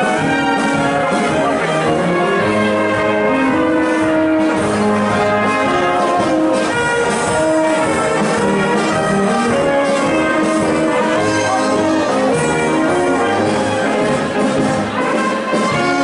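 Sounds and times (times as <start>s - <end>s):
brass band playing dance tune: 0.0s - 16.0s.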